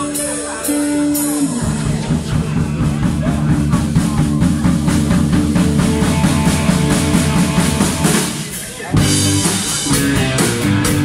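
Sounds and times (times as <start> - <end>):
bass guitar: 0.0 - 11.0
drum kit fast beat: 0.0 - 11.0
electric guitar: 0.0 - 11.0.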